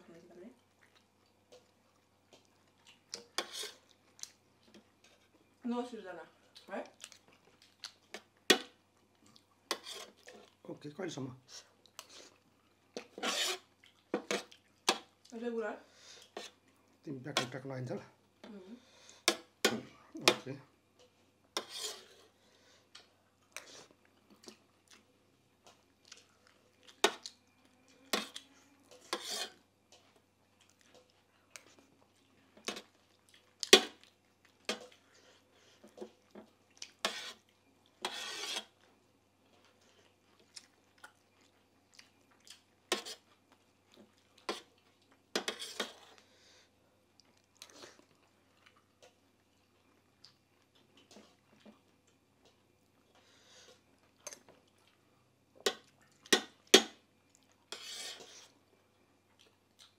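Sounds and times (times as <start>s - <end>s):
chewing: 0.6s - 5.5s, 6.4s - 10.6s, 11.5s - 15.3s, 22.3s - 38.0s, 38.8s - 56.3s, 57.2s - 59.9s.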